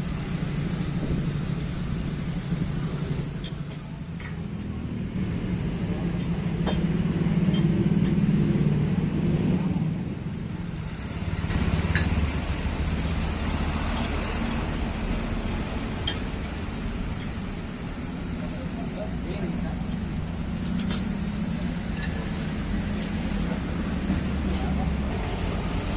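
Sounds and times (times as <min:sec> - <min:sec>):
motor engines humming: 0:00.0 - 0:25.9.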